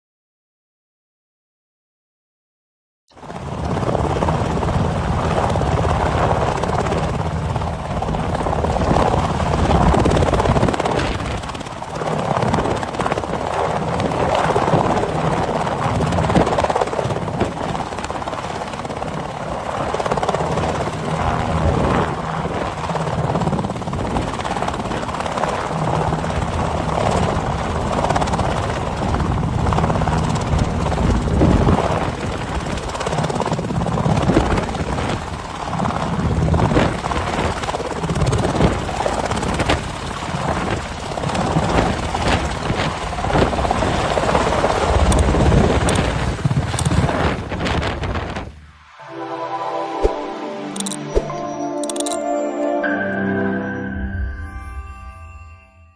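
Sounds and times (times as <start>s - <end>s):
helicopter rotor and engine: 3.2s - 48.4s.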